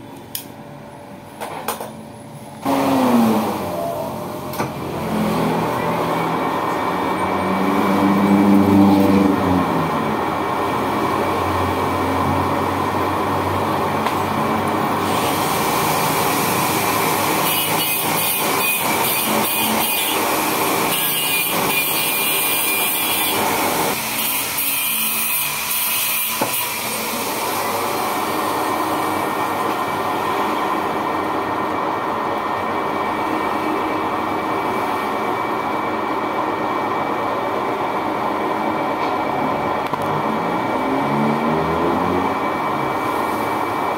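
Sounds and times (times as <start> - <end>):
lathe humming: 2.6 - 43.9.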